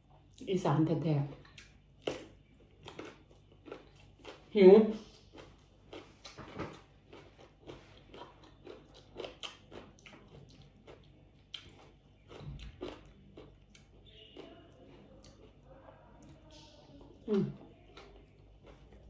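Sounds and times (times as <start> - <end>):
chewing and mouth smacks: 1.3 - 15.6, 16.2 - 19.0.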